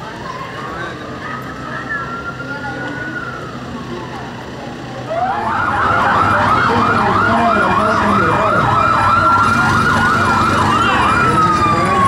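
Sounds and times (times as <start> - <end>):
police siren yelping: 1.9 - 12.0.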